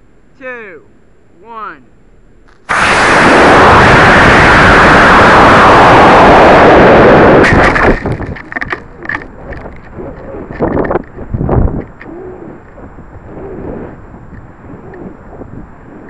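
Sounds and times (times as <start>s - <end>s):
rocket motor roaring: 2.6s - 16.0s
wind buffeting and crackling: 2.6s - 16.0s.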